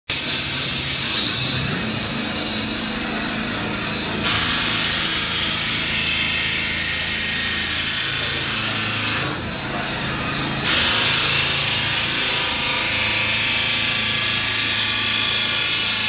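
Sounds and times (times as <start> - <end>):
low machine hum: 0.1 - 16.0
high hiss of machine: 0.2 - 16.0.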